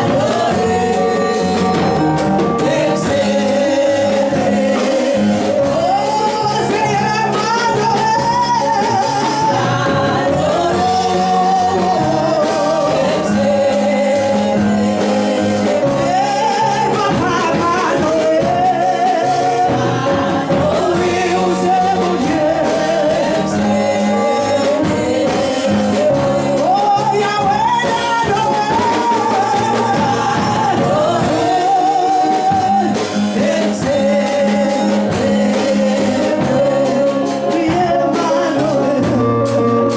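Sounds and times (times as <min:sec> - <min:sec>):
gospel singing: 0:00.0 - 0:39.9
instrumental accompaniment with beat: 0:00.0 - 0:39.9.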